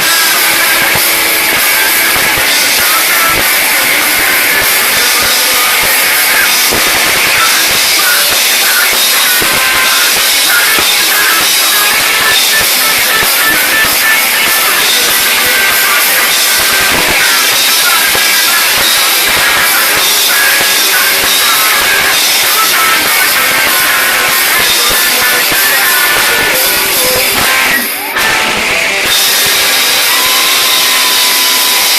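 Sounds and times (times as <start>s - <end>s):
rock band playing live: 0.0s - 31.9s.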